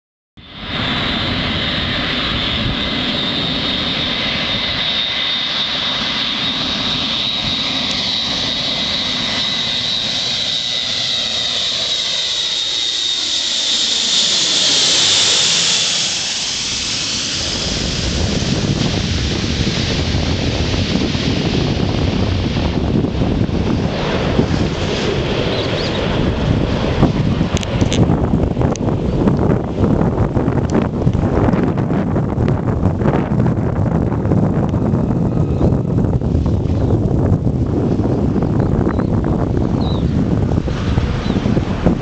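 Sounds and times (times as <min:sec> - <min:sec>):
turboprop aircraft passing overhead: 0:00.4 - 0:42.0.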